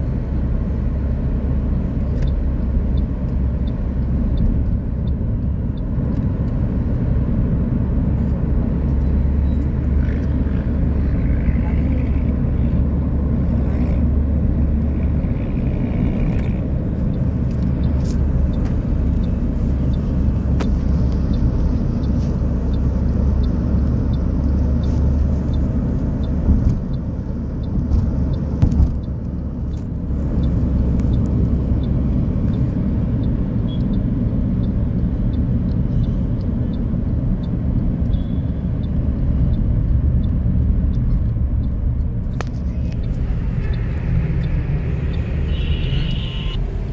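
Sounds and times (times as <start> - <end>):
car road noise rumble: 0.0 - 46.9.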